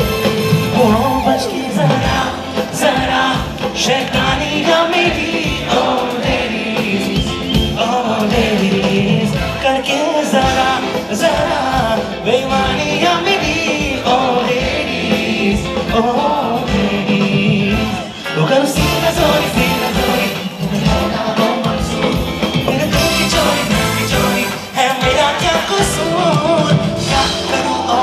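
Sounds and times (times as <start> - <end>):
live band playing loud: 0.0 - 28.0
man singing: 0.5 - 28.0.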